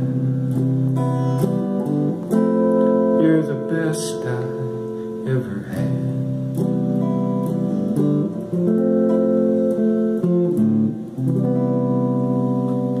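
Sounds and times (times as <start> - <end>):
guitar chords strummed: 0.0 - 13.0.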